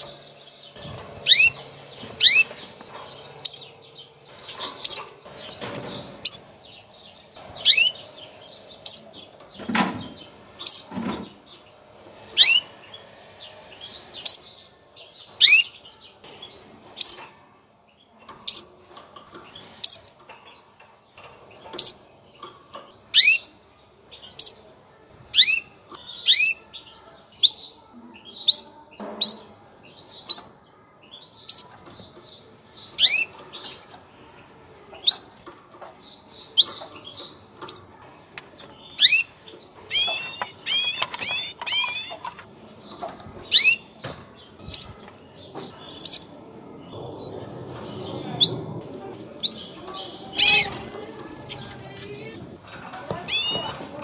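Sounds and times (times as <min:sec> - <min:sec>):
canary chirping: 0:00.0 - 0:54.0.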